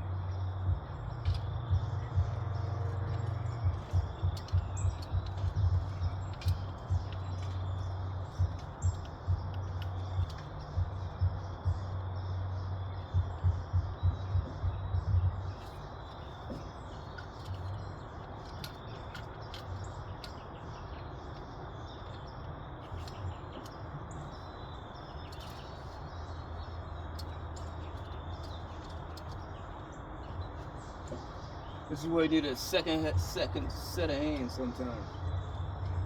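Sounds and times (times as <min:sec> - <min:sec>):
low hum: 0:00.0 - 0:36.0.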